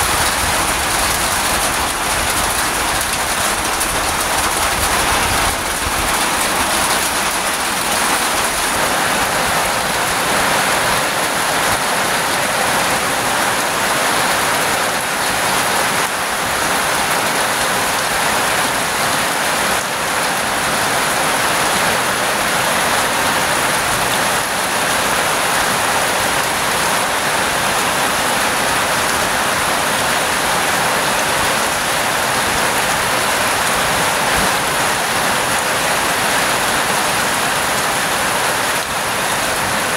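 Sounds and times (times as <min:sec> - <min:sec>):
heavy rain on puddles: 0:00.0 - 0:39.9.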